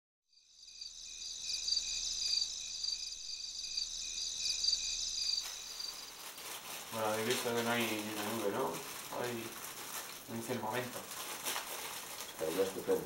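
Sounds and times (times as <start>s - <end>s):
crickets chirping: 0.3s - 13.0s.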